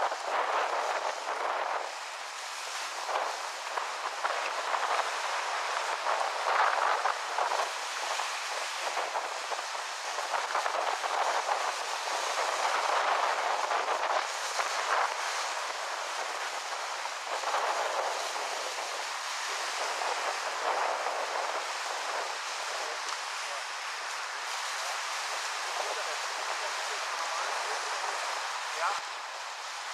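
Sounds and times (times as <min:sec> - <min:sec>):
small waves washing on shore: 0:00.0 - 0:29.9
wind: 0:00.0 - 0:29.9.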